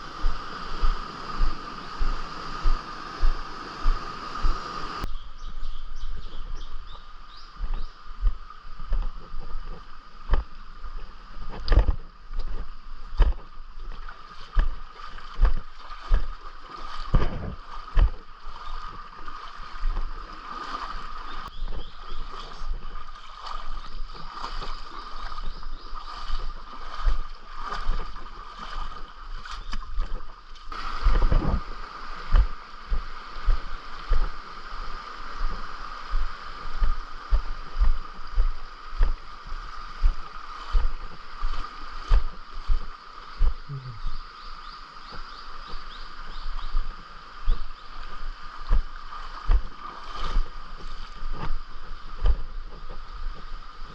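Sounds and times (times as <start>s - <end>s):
water splashing and sloshing: 0.0s - 5.1s, 6.4s - 43.9s, 44.6s - 53.9s.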